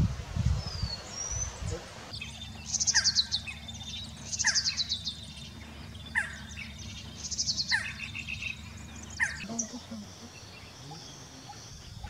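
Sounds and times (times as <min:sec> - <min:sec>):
bird calling: 0:00.7 - 0:12.0.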